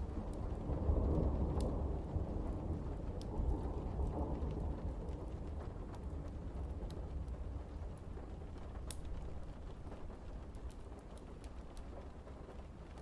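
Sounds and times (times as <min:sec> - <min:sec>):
low rumble of thunder: 0:00.0 - 0:11.0
steady rain: 0:00.0 - 0:13.0.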